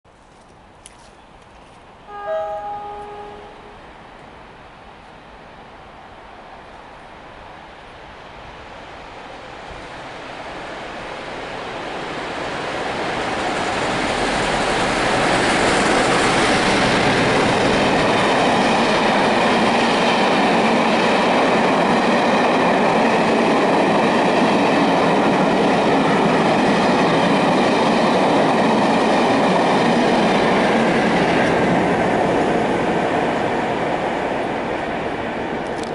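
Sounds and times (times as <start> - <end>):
diesel train passing: 2.0 - 35.9.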